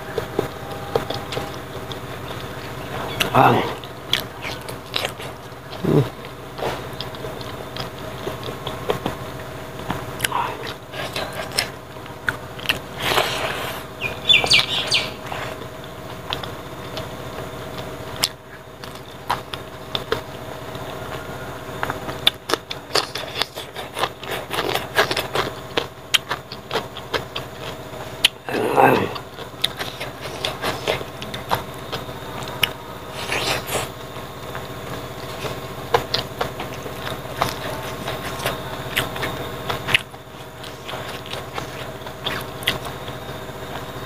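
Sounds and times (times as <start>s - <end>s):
chewing and lip-smacking: 0.0s - 44.0s
faint steady hum: 0.0s - 44.0s.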